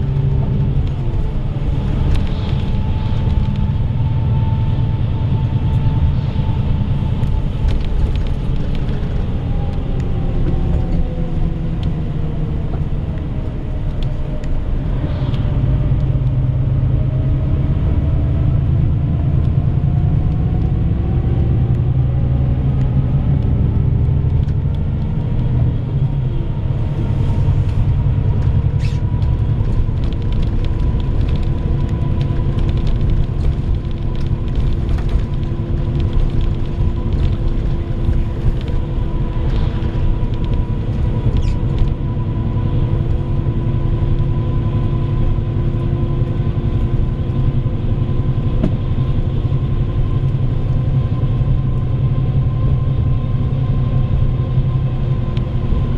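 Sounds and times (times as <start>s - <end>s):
bus diesel engine: 0.0s - 55.9s
road rumble: 0.0s - 55.9s.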